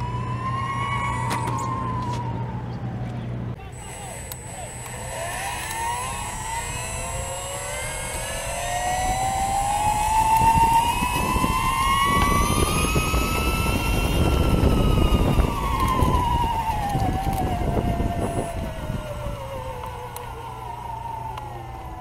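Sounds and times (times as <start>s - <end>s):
wheels rolling on pavement: 0.0s - 3.6s, 4.7s - 22.0s
electric motor whining: 0.0s - 22.0s.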